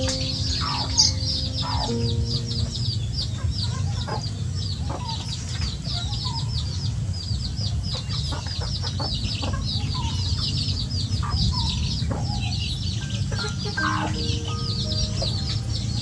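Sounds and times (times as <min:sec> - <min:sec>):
young chickens clucking softly: 0:00.0 - 0:15.8.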